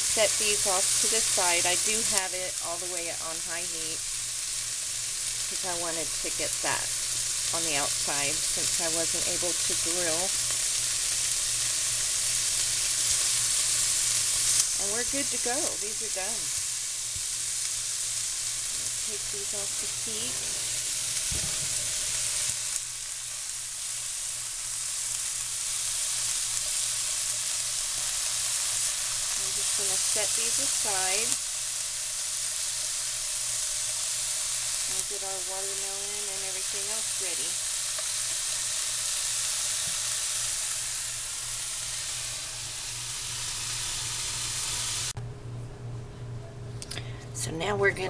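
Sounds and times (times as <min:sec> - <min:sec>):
chicken sizzling in a pan: 0:00.0 - 0:45.2.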